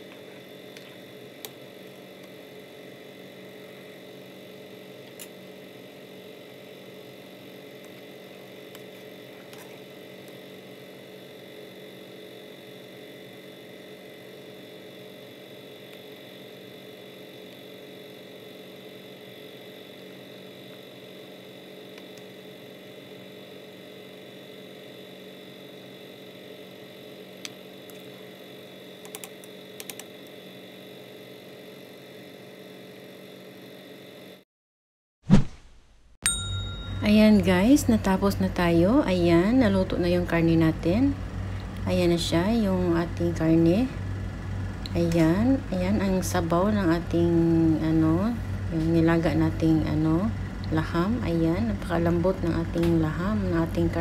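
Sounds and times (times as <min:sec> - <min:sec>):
steady hum: 0:00.0 - 0:34.4, 0:36.3 - 0:54.0.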